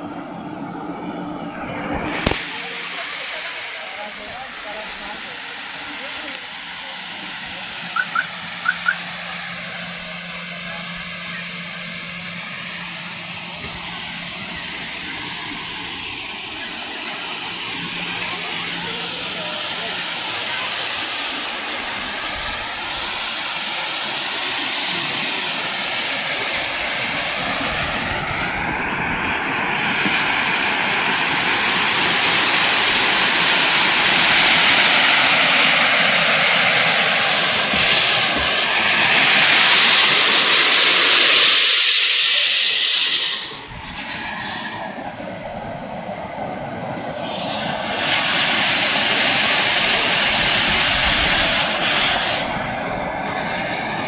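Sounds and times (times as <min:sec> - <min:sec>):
wind over microphone: 0:00.0 - 0:03.0, 0:03.6 - 0:54.0.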